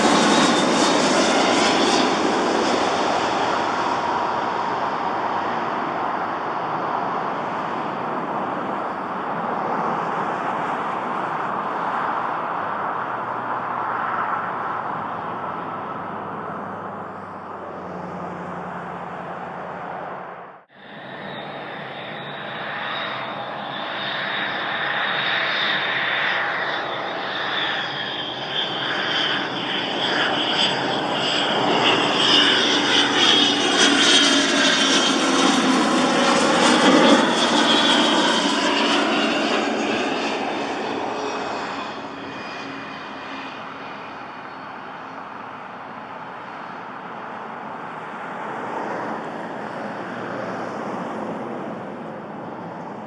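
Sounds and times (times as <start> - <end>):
airliner noise: 0.0 - 53.0
jet engines hissing and whining: 0.0 - 53.0.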